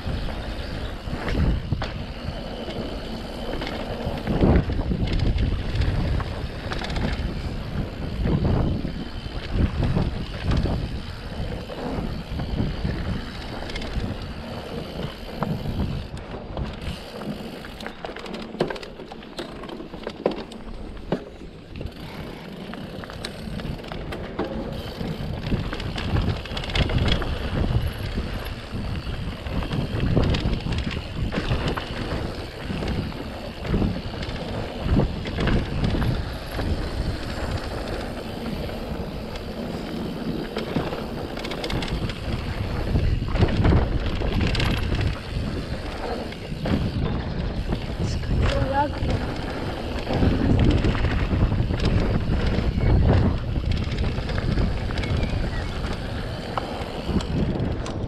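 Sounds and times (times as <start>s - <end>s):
wind buffeting microphone: 0.0s - 18.8s, 19.6s - 58.0s
bike knocking and rattling: 0.0s - 58.0s
bike tyres on dirt: 0.0s - 58.0s.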